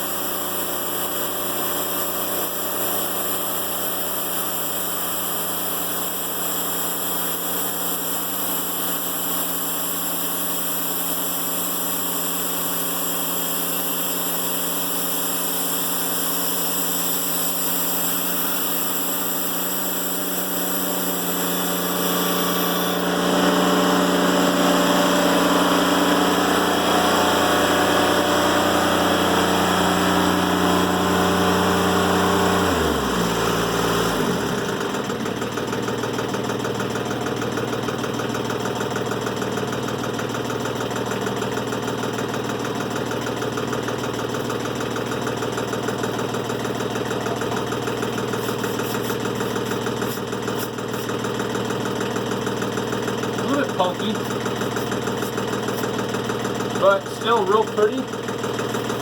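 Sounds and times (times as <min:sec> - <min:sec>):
band sawmill cutting log: 0:00.0 - 0:59.0.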